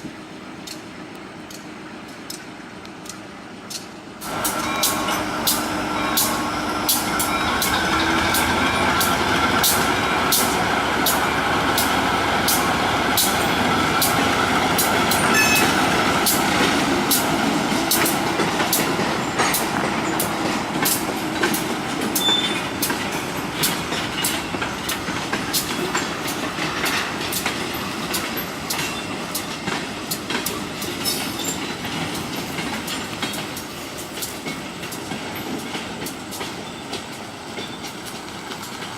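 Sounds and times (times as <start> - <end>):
train rumble: 0.0 - 38.9
train wheels clicking on rails: 0.0 - 38.9.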